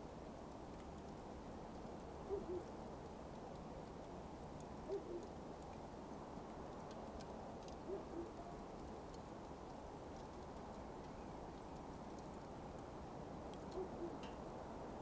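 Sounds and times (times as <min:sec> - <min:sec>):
burning coals crackling: 0:00.0 - 0:15.0
steady low hiss: 0:00.0 - 0:15.0.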